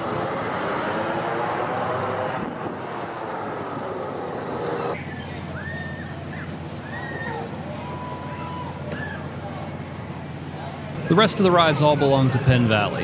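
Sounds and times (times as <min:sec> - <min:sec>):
ride machinery humming: 0:00.0 - 0:13.0.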